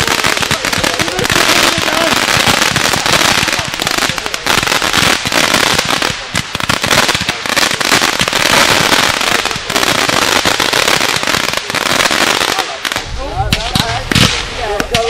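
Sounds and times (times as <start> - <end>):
fireworks crackling and bangs: 0.0 - 15.0.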